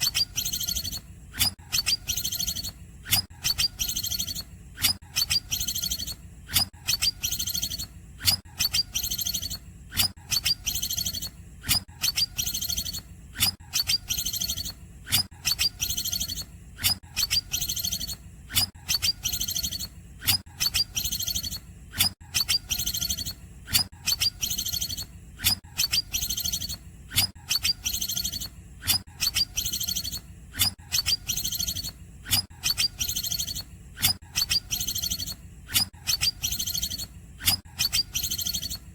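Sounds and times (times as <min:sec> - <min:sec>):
bird singing shrill chirps: 0:00.0 - 0:38.9.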